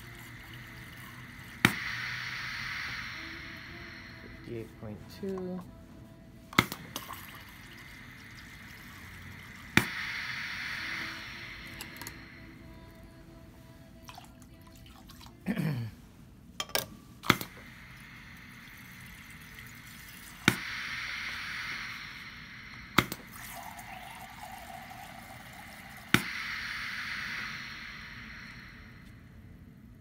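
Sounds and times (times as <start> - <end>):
water hissing into beaker: 0.0 - 5.6, 6.5 - 15.7, 17.0 - 29.6.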